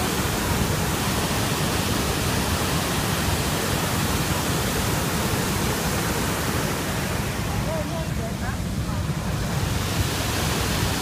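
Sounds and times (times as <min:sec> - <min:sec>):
waterfall rushing onto rocks: 0:00.0 - 0:11.0.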